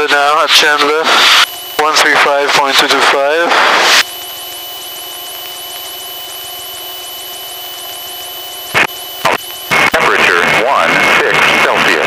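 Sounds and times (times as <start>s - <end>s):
aircraft engine drone: 0.0s - 12.0s
high whine: 0.0s - 12.0s
faint rapid electronic chirping: 1.2s - 11.8s.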